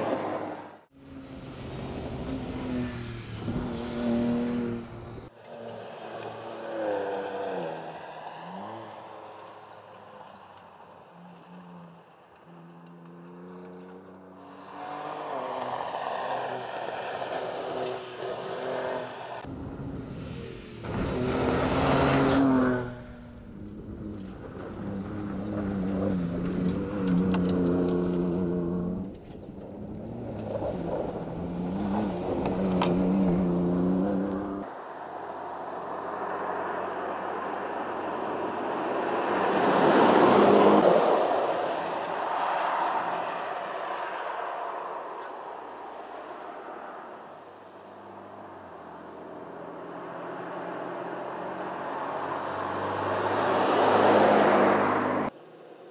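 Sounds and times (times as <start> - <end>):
truck driving by on paved road: 0.0 - 55.4.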